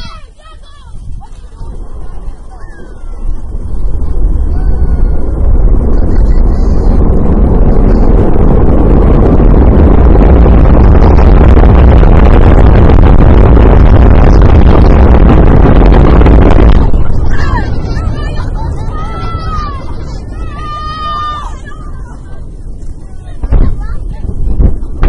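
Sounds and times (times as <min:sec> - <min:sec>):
rocket rumble: 0:00.0 - 0:25.0.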